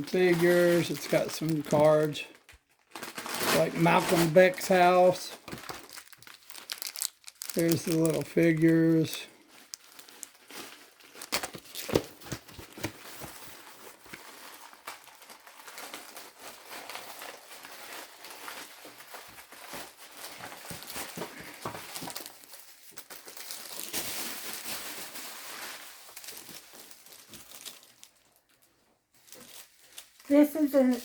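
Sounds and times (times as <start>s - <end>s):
packaging crinkling and rustling: 0.0s - 31.0s.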